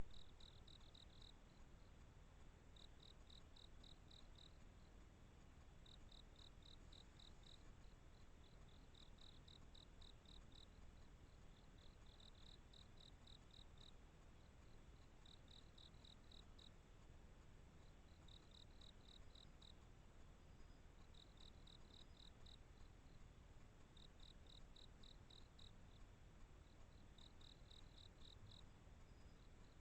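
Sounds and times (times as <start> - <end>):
cricket chirping: 0.0 - 29.8
low hiss: 0.0 - 29.8.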